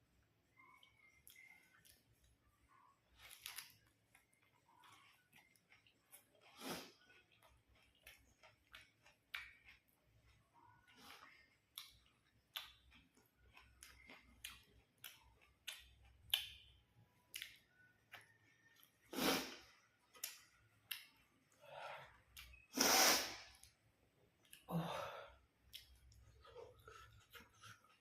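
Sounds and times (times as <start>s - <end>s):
crunching crisp food: 0.5s - 21.4s, 25.6s - 28.0s.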